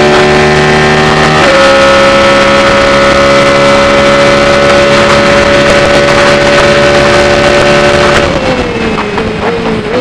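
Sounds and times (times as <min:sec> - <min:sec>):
race car engine at high revs: 0:00.0 - 0:10.0.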